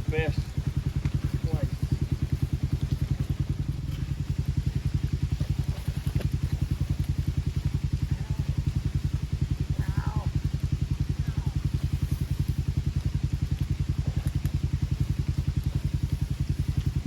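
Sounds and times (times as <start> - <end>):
engine idling with rapid chug: 0.0 - 17.0.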